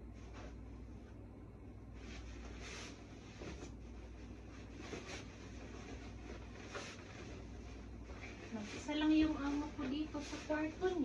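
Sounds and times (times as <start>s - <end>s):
low steady hum: 0.0s - 11.0s
pillowcase fabric rustling: 1.8s - 11.0s.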